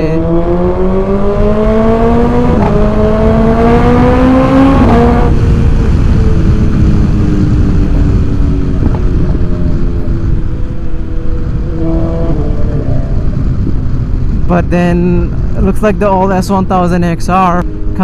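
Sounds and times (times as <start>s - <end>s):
motorcycle engine accelerating: 0.0s - 16.3s, 17.5s - 18.0s
wind rush: 0.0s - 18.0s.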